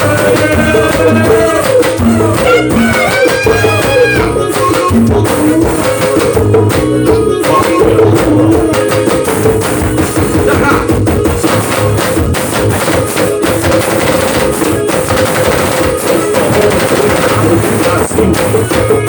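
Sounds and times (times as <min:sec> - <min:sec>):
live band instrumental music: 0:00.0 - 0:19.0.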